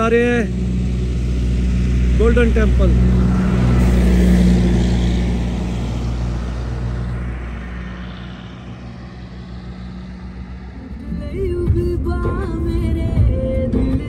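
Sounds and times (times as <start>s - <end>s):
car engine and road hum: 0.0s - 14.0s.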